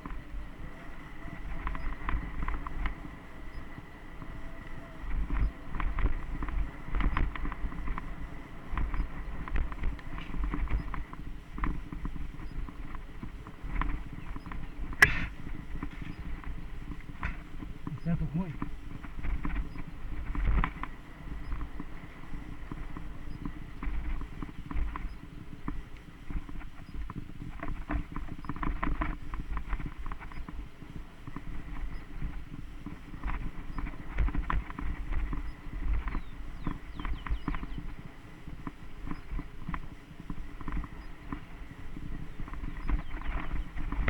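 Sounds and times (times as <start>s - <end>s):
bike rattling and clicking: 0.0s - 44.0s
tyres rumbling on dirt trail: 0.0s - 44.0s.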